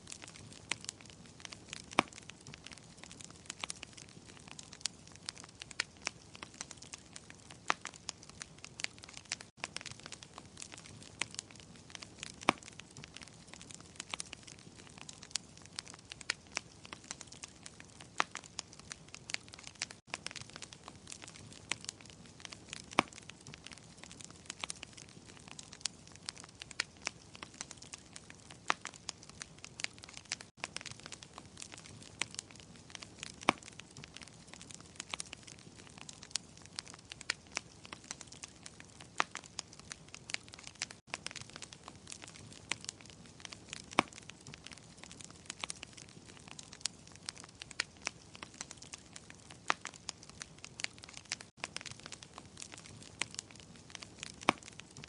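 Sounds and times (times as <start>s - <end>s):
low hiss of burning: 0.0s - 55.0s
wood fire crackling and popping: 0.0s - 55.0s.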